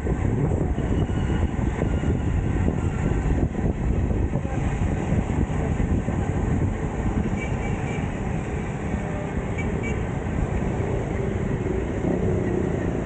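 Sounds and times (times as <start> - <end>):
wind rush on microphone: 0.0 - 13.0.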